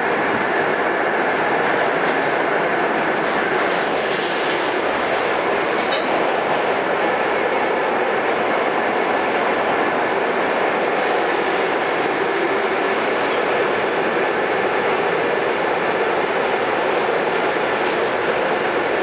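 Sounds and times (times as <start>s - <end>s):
subway car wheels on rail: 0.0s - 19.0s.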